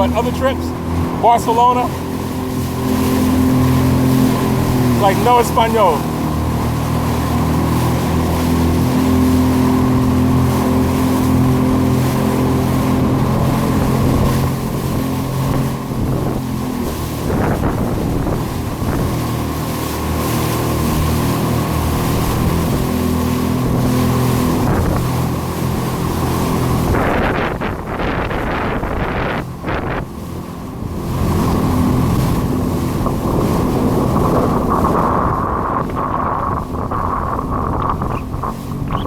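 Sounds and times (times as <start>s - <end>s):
jet ski engine running: 0.0s - 39.0s
rushing water: 0.0s - 39.0s
wind on microphone: 2.0s - 39.0s.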